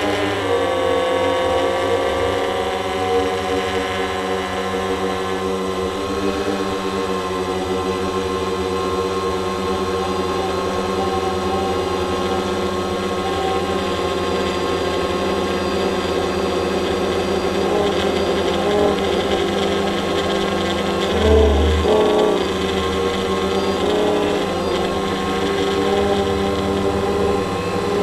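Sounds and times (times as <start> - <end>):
drone motors humming: 0.0 - 28.0.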